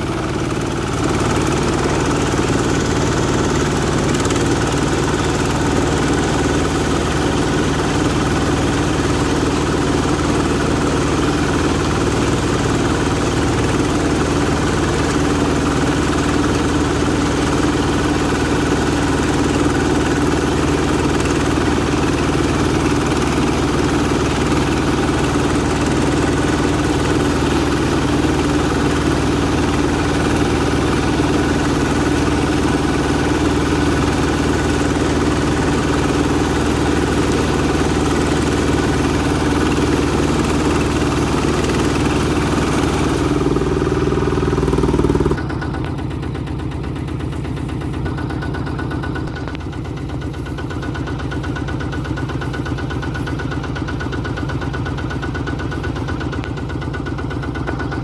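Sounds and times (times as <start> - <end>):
combine harvester running: 0.0 - 58.0
engine ticking: 0.0 - 58.0.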